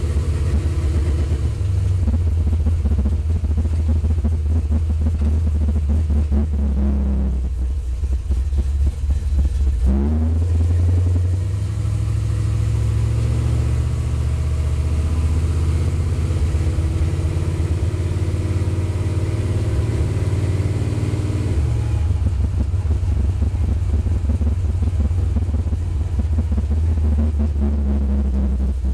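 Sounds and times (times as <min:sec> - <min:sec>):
pickup truck engine running: 0:00.0 - 0:28.9.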